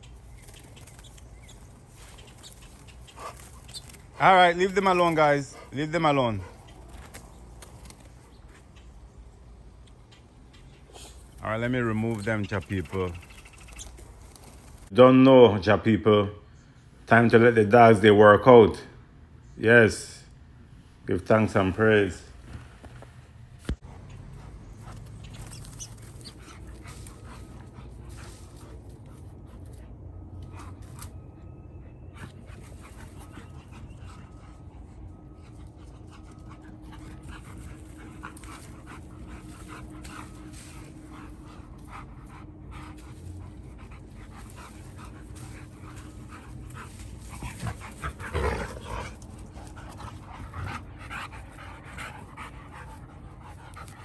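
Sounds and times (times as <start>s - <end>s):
dogs panting: 0.0s - 18.8s, 20.8s - 54.0s.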